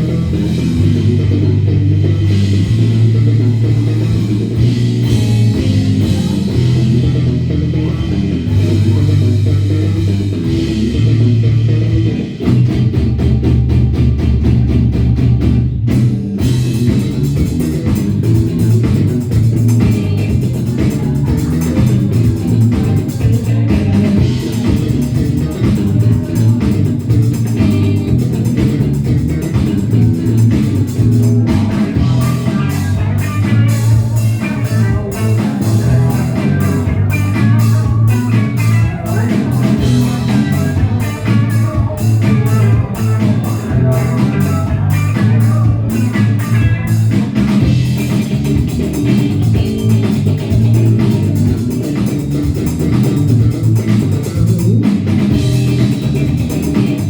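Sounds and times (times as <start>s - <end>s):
bass guitar: 0.0s - 57.0s
drum kit: 0.0s - 57.0s
guitar: 0.0s - 57.0s.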